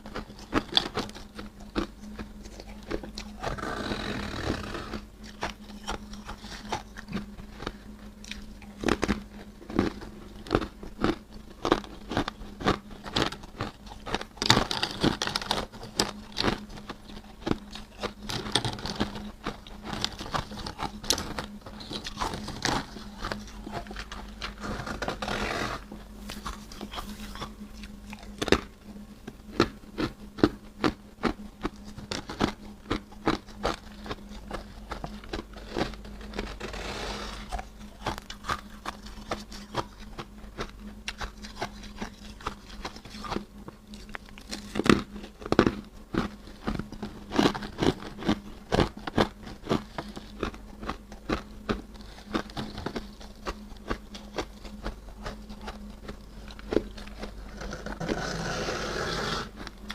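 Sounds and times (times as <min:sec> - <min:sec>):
faint low hum: 0:00.0 - 0:59.9
frost crunching being chewed: 0:00.0 - 0:59.9.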